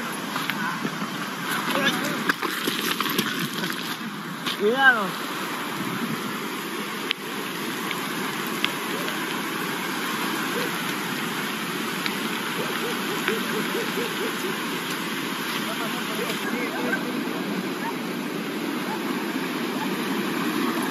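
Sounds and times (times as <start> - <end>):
river rushing over rocks: 0.0 - 20.9.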